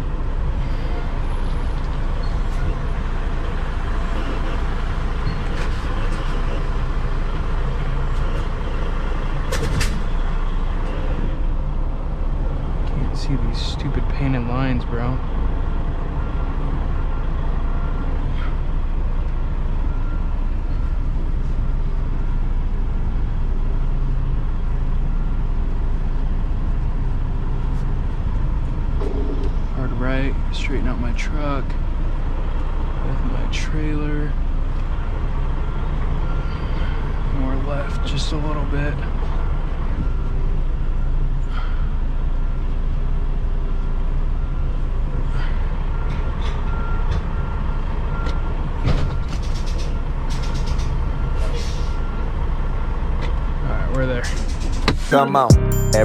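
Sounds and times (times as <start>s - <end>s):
truck diesel engine rumbling: 0.0s - 56.0s.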